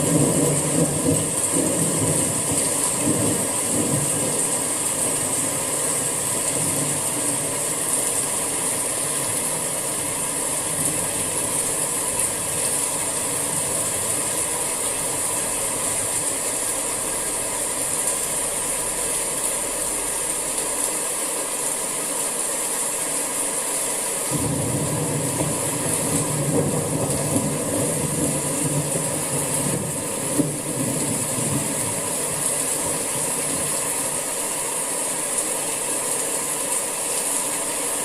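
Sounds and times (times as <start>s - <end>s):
rain hissing: 0.0s - 38.0s.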